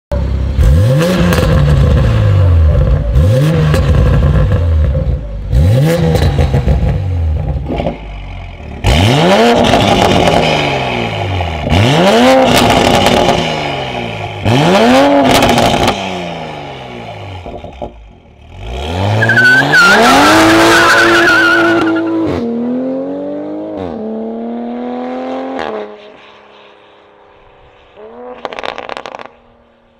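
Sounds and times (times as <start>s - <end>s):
car engine revving: 0.4s - 26.2s, 27.8s - 29.6s.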